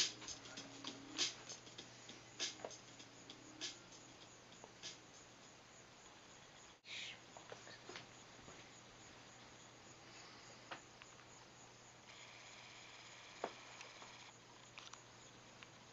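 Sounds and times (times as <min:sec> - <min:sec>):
faint steady hum and hiss: 0:00.0 - 0:15.9.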